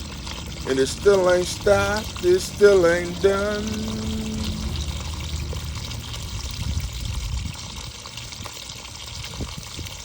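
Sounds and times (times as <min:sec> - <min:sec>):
water pouring from washing machine: 0:00.0 - 0:10.0.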